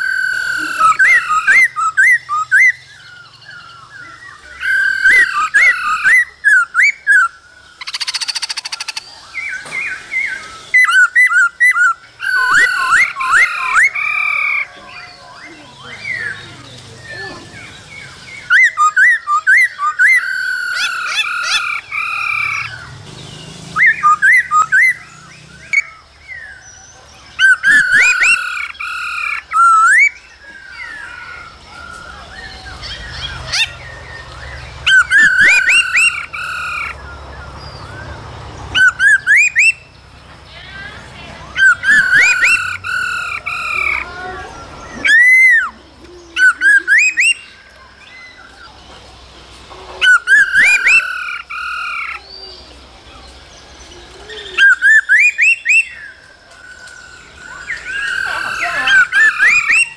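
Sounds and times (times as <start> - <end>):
birds whistling calls: 0.0 - 59.9.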